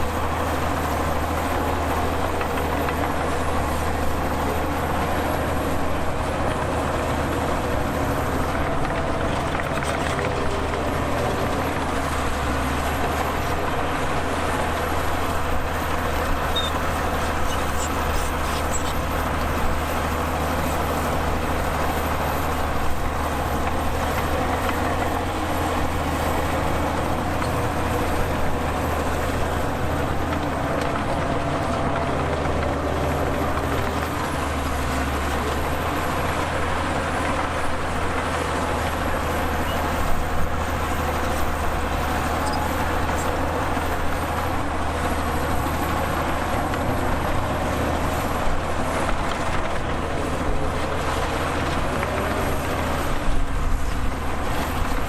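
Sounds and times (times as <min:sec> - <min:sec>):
diesel earthmoving machinery: 0:00.0 - 0:55.0.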